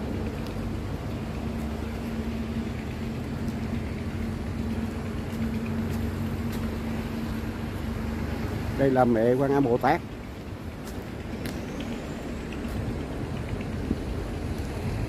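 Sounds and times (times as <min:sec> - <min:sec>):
steady engine hum: 0:00.0 - 0:15.0.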